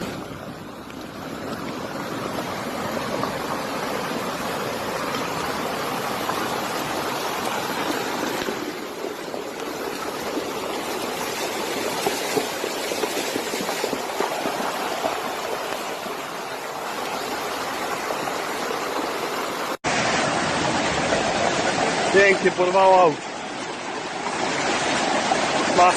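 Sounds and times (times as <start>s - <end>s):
floodwater rushing: 0.0s - 25.9s.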